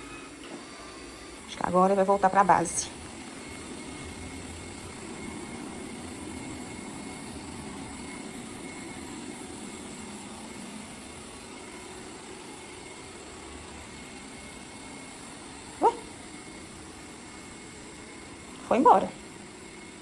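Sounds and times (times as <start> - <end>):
robot vacuum motor humming: 0.0 - 20.0.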